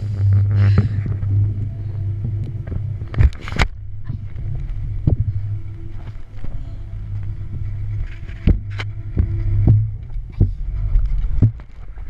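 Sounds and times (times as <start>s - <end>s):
winch motor humming: 0.0s - 11.9s.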